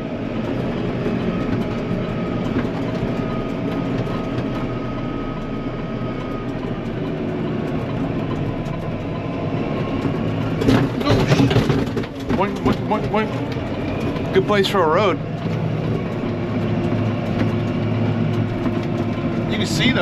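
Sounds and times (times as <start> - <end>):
tractor engine rattling: 0.0 - 20.0.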